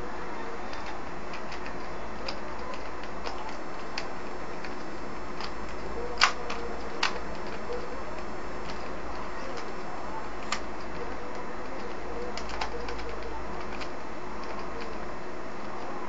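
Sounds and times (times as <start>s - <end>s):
plastic puzzle cube clicking: 0.7s - 15.9s.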